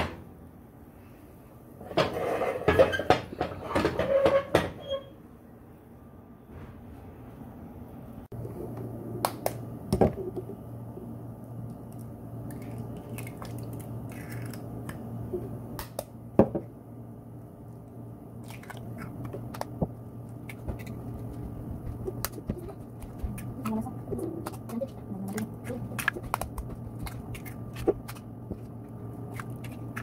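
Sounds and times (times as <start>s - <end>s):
steady low hum: 5.2s - 30.0s.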